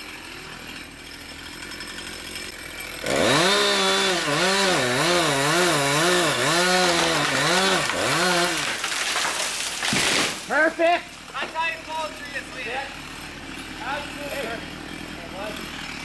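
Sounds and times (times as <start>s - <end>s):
chainsaw cutting tree trunk: 0.0s - 16.0s.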